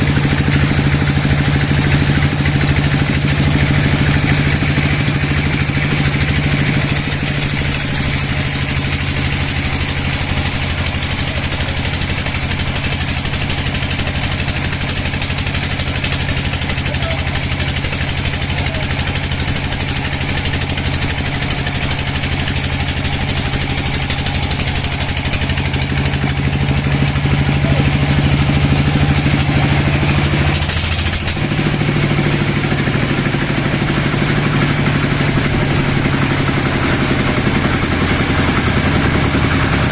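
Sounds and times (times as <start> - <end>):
constant noisy rush: 0.0 - 39.9
sawmill engine running: 0.0 - 39.9.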